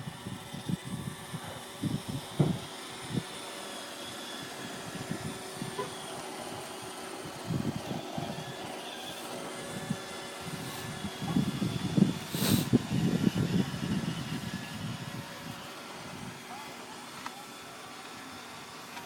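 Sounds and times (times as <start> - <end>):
robot vacuum whirring: 0.0 - 19.0.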